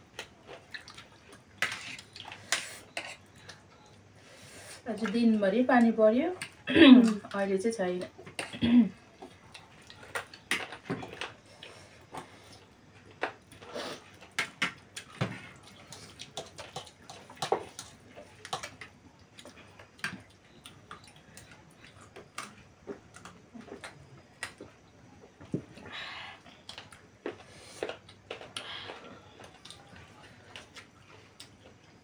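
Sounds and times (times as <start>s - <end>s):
people slurping and chewing: 0.0s - 4.8s, 8.1s - 32.0s.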